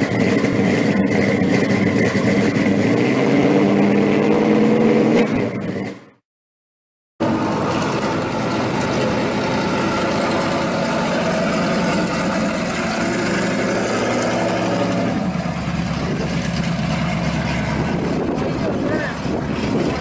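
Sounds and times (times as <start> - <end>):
car engine rumbling: 0.0 - 6.2, 7.2 - 20.0.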